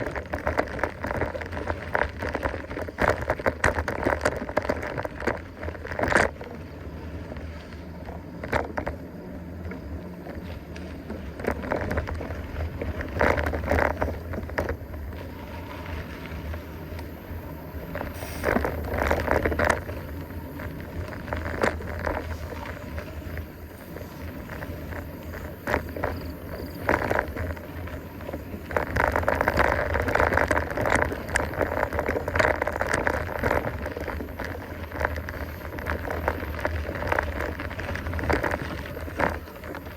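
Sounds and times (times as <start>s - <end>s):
bike rattling over bumps: 0.0s - 39.9s
steady low rumble: 0.0s - 39.9s
tyres crunching on dirt: 0.0s - 39.9s.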